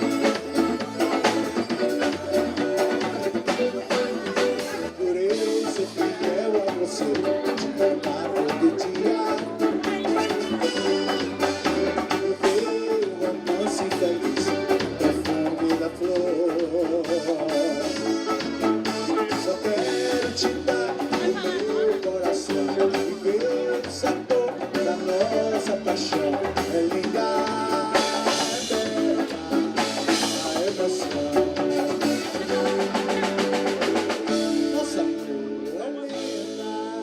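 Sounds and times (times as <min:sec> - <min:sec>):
drum kit: 0:00.0 - 0:37.0
person singing: 0:00.0 - 0:37.0.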